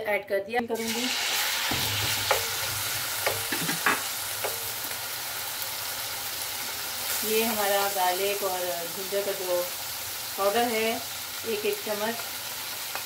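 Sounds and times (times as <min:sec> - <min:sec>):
chicken sizzling in oil: 0:00.8 - 0:13.0.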